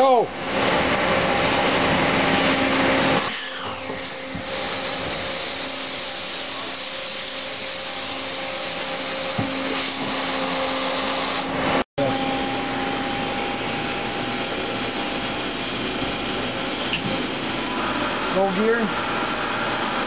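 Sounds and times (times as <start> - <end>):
machine motors whirring with whine: 0.5 - 20.0.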